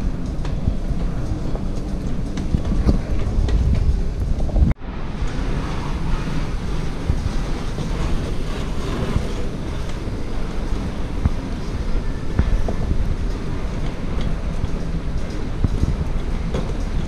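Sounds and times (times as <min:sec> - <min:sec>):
moving walkway rumble and hiss: 0:00.0 - 0:17.0.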